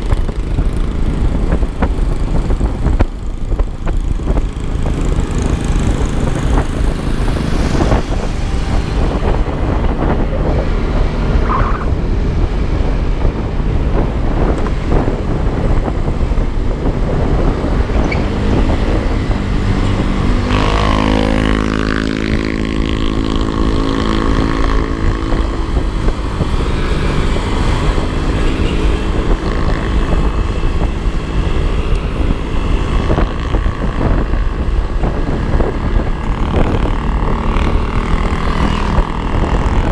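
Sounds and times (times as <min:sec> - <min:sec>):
scooter engine running: 0:00.0 - 0:11.9, 0:12.8 - 0:39.9
wind and road noise: 0:00.0 - 0:39.9.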